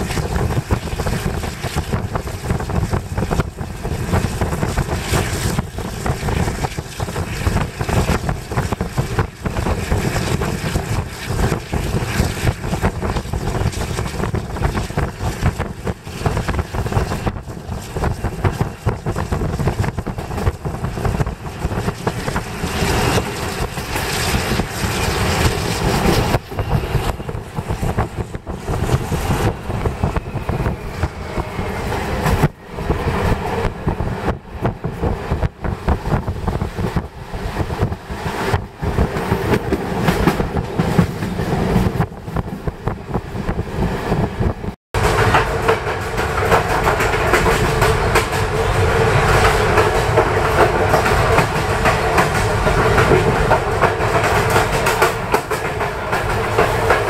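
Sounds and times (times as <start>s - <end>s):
railcar running along track: 0.0s - 57.0s.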